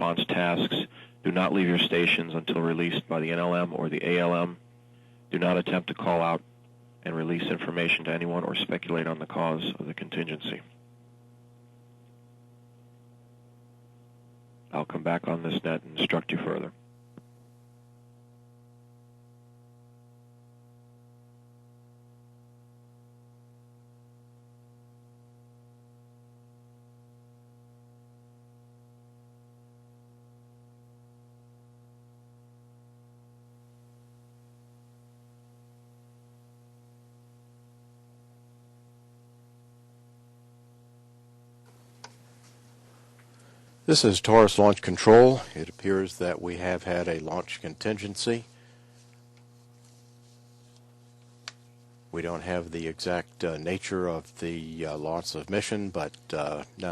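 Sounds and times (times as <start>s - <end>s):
faint electrical hum: 0.0s - 56.9s.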